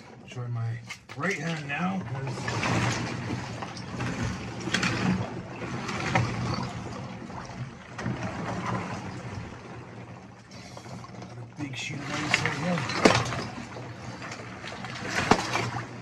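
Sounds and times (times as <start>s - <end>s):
icy water sloshing: 0.0s - 16.0s.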